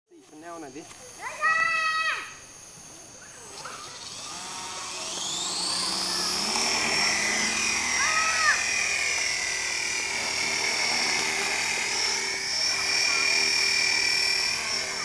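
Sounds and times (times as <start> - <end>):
rc helicopter rotor whine: 0.3 - 15.0.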